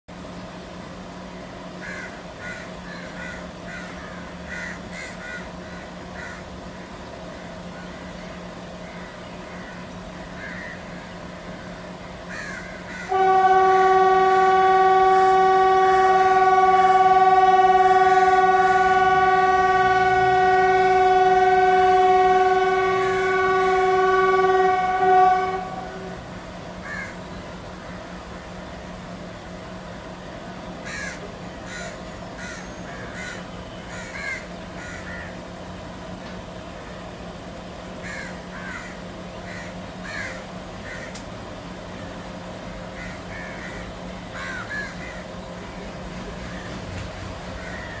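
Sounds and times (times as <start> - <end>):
diesel locomotive horn blast: 0.1 - 48.0
low steady hum: 0.1 - 48.0.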